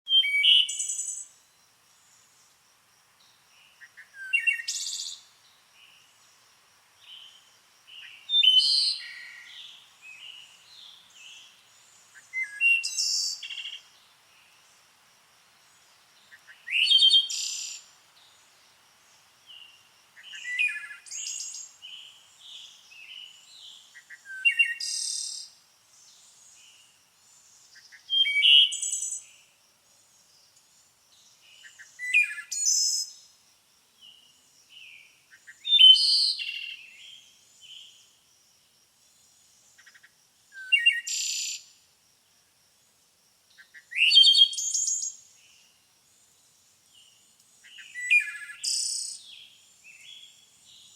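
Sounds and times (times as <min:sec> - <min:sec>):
songbird chirps and trills: 0:00.1 - 0:50.9.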